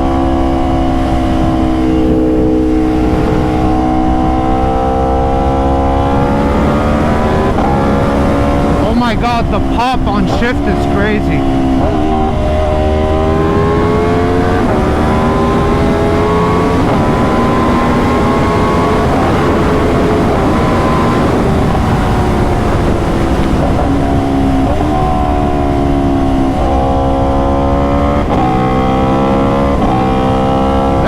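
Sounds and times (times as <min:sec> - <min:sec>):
engine blips on downshift: 0:00.0 - 0:31.0
motorcycle engine shifting gears: 0:00.0 - 0:31.0.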